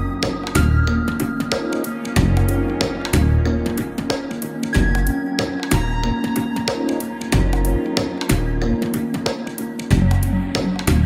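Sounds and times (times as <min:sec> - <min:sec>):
music with beat and bass: 0:00.0 - 0:11.0.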